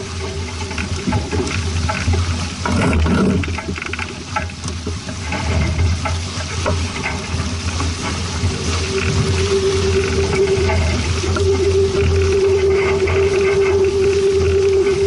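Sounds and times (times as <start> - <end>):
low rumble: 0.0 - 15.0
water splashing against hull: 0.0 - 15.0.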